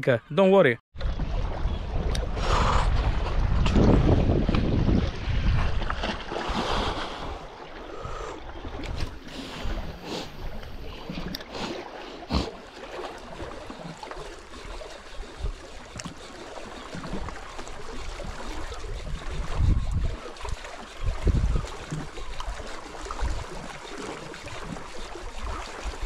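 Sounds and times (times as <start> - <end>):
wind on microphone: 1.0 - 26.0
waves lapping at rocky shore: 1.3 - 26.0.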